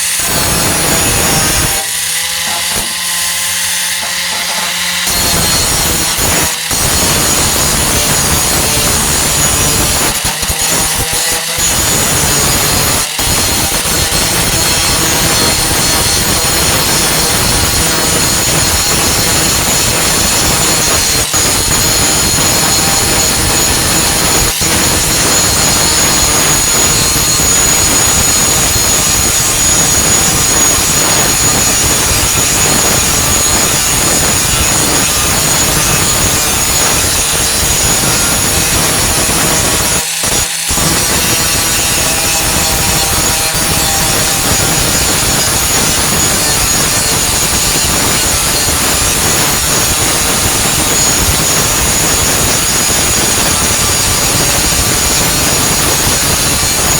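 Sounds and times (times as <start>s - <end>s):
angle grinder grinding metal: 0.0s - 56.9s.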